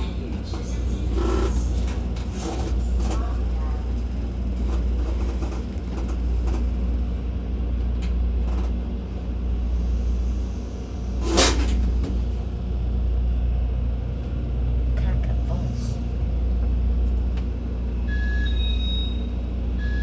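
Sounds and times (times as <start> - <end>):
train running rumble: 0.0 - 20.0.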